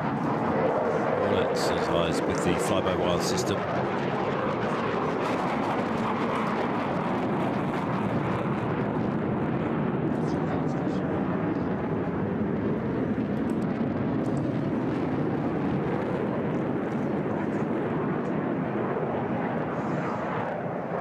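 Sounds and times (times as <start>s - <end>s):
jet engine rushing: 0.0s - 21.0s.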